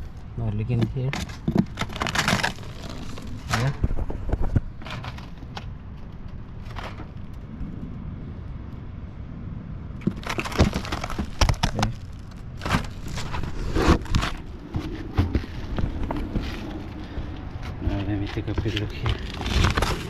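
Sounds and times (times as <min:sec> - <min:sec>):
scraping and knocking on roof shingles: 0:00.7 - 0:07.3, 0:10.0 - 0:20.0
low rumble: 0:02.0 - 0:20.0.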